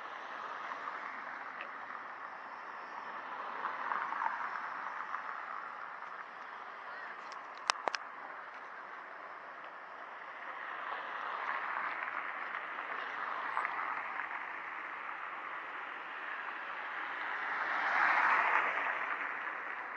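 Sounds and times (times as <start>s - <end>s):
cars driving past: 0.0s - 19.9s.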